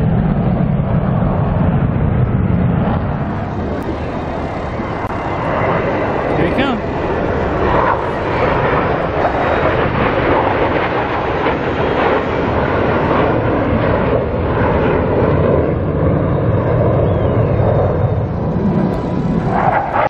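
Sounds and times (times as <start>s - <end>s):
fighter jets flying over: 0.0s - 20.0s.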